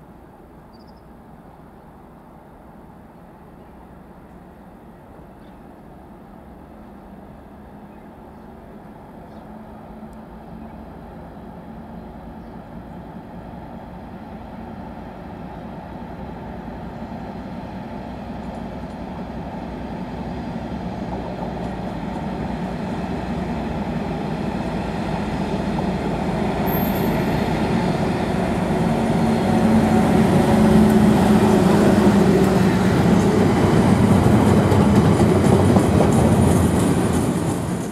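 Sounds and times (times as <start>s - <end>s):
diesel locomotive engine: 0.0s - 37.9s.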